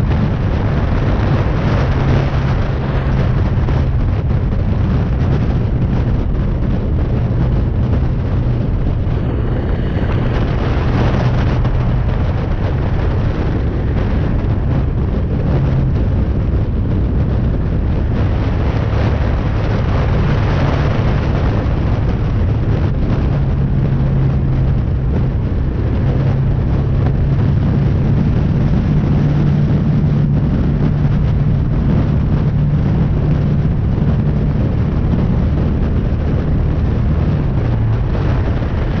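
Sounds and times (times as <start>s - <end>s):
motorcycle engine running: 0.0s - 39.0s
wind noise on microphone: 0.0s - 39.0s.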